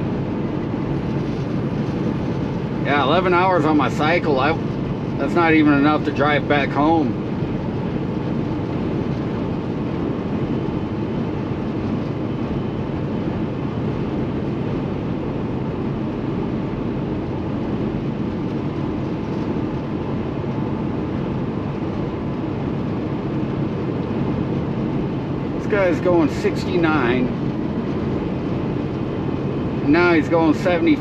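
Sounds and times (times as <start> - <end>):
diesel truck engine drone: 0.0 - 31.0
road and wind noise: 0.0 - 31.0.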